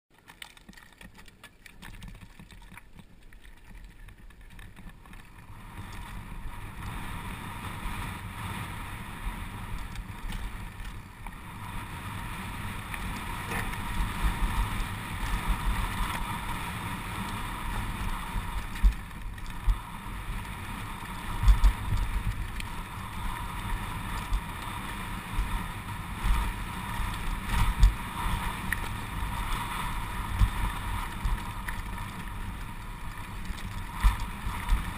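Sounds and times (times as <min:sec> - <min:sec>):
bike tyres on gravel trail: 0:00.1 - 0:34.9
wind rushing over microphone: 0:05.4 - 0:34.9.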